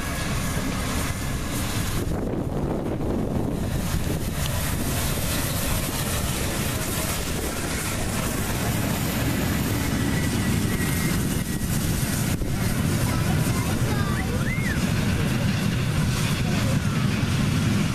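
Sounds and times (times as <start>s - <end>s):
coaches rumbling on rails: 0.0s - 17.9s
steam locomotive passing: 0.0s - 17.9s.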